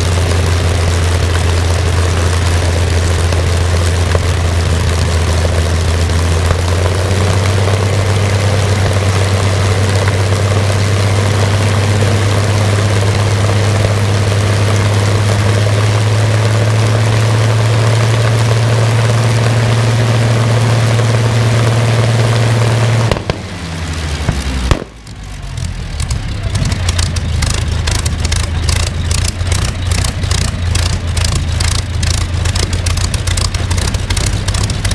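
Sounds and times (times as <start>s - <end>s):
aero engine droning: 0.0s - 34.9s.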